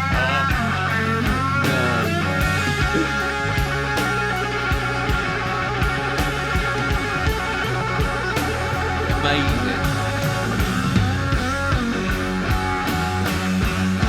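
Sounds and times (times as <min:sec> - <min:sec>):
bass guitar: 0:00.0 - 0:14.0
drum beats: 0:00.0 - 0:14.0
electric guitar solo: 0:00.0 - 0:14.0.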